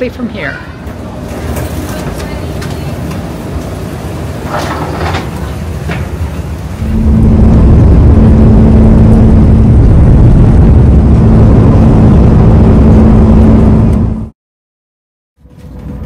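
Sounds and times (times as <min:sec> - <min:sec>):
jet engines rumbling: 0:00.0 - 0:14.3.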